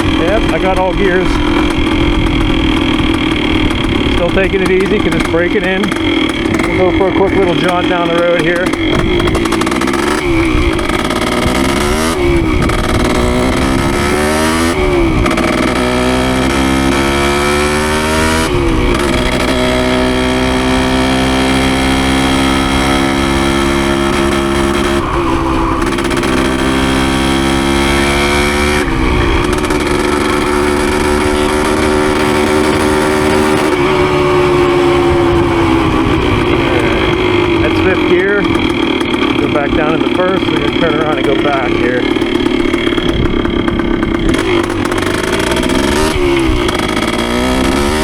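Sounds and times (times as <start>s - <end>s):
two-stroke motorcycle engine: 0.0s - 48.0s.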